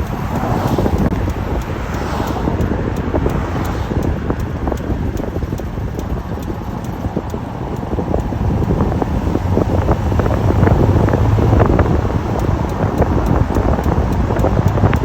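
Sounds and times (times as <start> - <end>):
regular engine ticking: 0.0 - 15.0
truck engine running: 0.0 - 15.0
wind noise on microphone: 0.0 - 15.0.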